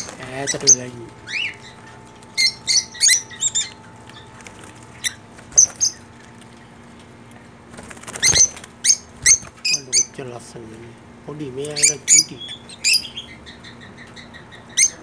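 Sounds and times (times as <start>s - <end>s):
parrots chirping: 0.0s - 6.8s, 8.2s - 10.2s, 11.7s - 15.0s
faint low hum: 0.0s - 15.0s.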